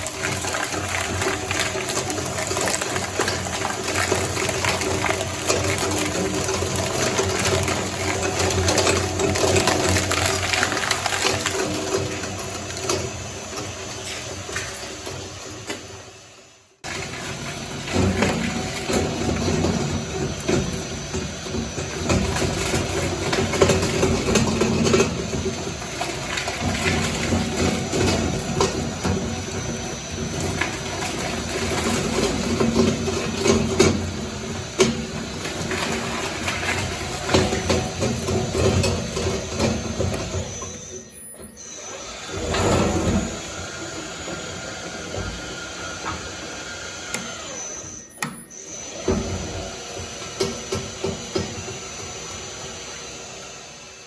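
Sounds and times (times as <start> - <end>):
shredder grinding slime: 0.0 - 54.0.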